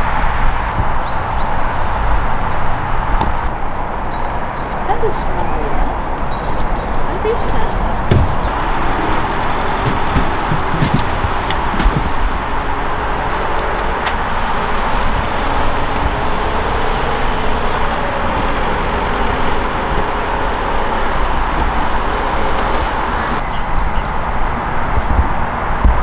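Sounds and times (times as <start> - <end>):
vehicle engine running: 0.0 - 23.4.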